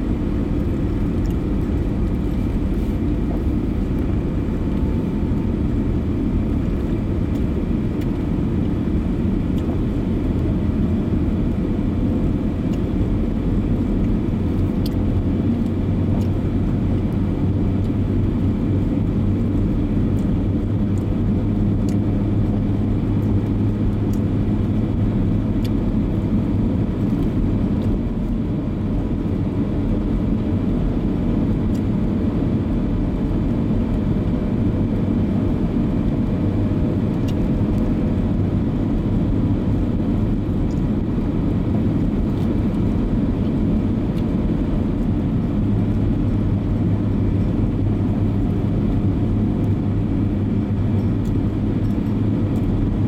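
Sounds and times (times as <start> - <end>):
car engine and tyre noise: 0.0 - 53.0.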